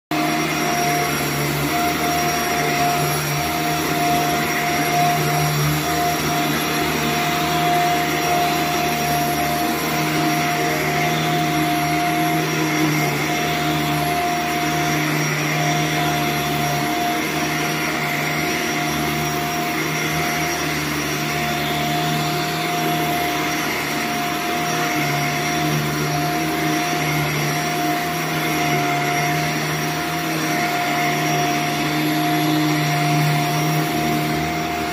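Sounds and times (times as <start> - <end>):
vacuum motor humming: 0.1 - 34.9.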